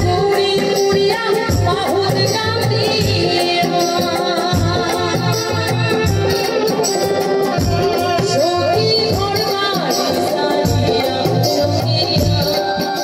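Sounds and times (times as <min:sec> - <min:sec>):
drums: 0:00.0 - 0:13.0
rattling percussion: 0:00.0 - 0:13.0
woman singing through a microphone: 0:00.0 - 0:13.0.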